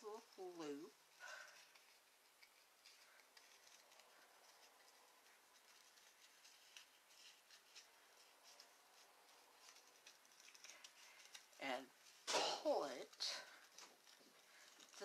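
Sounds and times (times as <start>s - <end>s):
paper and ribbon rustling: 0.0s - 15.0s.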